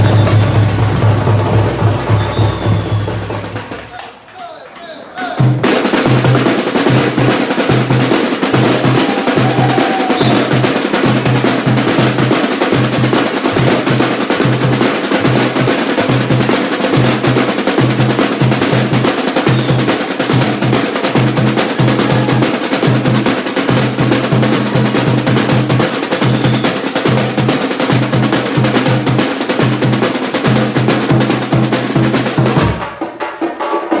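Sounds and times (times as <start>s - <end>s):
snare drums and small percussion: 0.0s - 34.0s.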